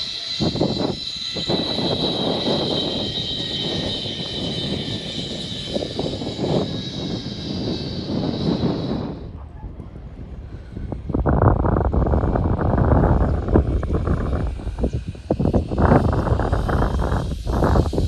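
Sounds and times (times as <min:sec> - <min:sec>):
high-pitched whine and hiss: 0:00.0 - 0:09.3, 0:10.4 - 0:18.0
wind buffeting microphone: 0:00.0 - 0:18.0.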